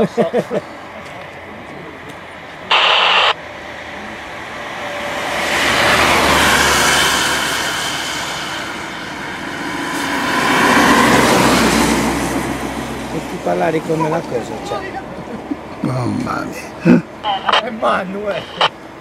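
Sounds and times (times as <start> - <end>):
cars passing by: 0.0 - 19.0.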